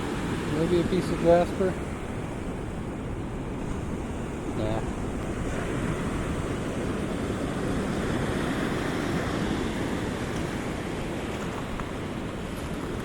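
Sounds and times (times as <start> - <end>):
surf washing over pebbles: 0.0 - 13.0.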